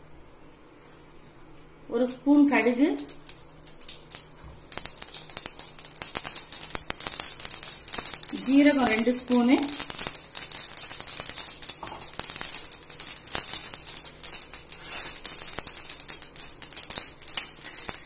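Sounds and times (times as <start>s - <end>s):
seeds sizzling in hot oil: 2.2s - 18.0s
seeds popping: 3.0s - 18.0s.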